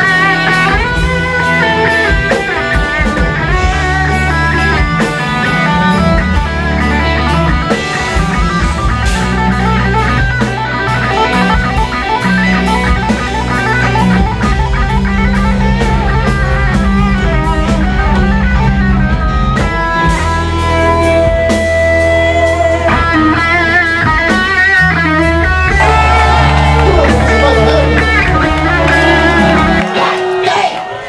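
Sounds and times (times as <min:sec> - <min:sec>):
bass guitar notes: 0:00.0 - 0:30.5
drum kit: 0:00.0 - 0:30.8
electric guitar solo: 0:00.0 - 0:31.0.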